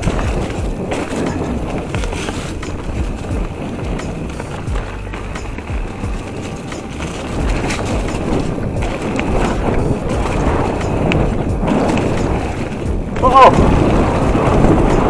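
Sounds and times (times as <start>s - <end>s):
bike rattling over bumps: 0.0s - 15.0s
bike tyres rumbling on dirt: 0.0s - 15.0s
wind buffeting microphone: 0.0s - 15.0s.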